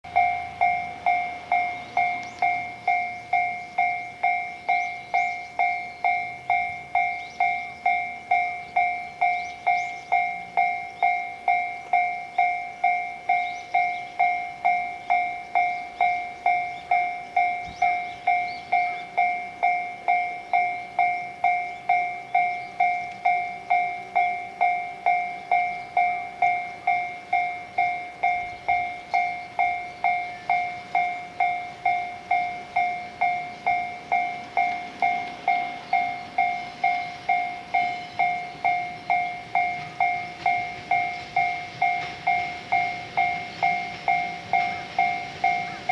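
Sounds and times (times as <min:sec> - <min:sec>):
level crossing warning bell: 0:00.0 - 0:45.9.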